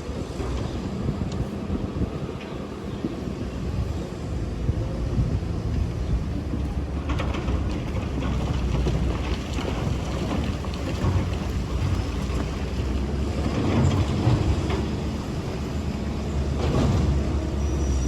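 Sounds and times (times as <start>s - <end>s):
excavator diesel engine rumbling: 0.0s - 18.0s.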